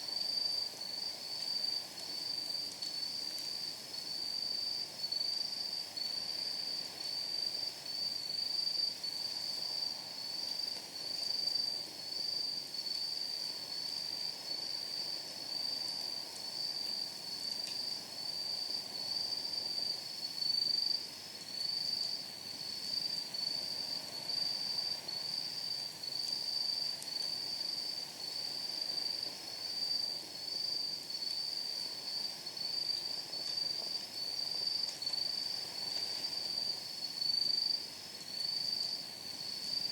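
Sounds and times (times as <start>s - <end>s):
insect chirping: 0.1s - 39.9s.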